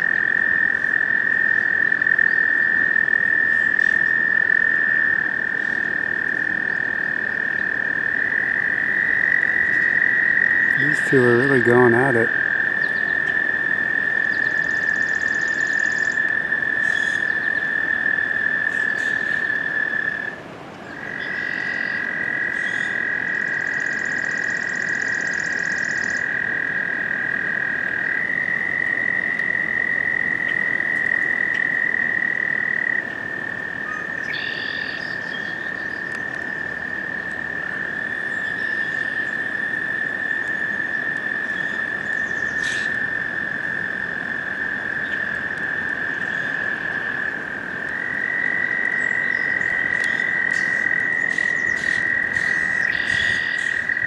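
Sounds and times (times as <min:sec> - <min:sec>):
toads trilling: 0:00.0 - 0:20.3, 0:20.9 - 0:54.0.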